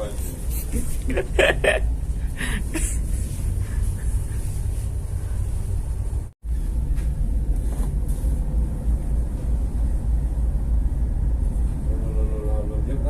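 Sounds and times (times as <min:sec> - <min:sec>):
ship rumble: 0:00.0 - 0:13.0.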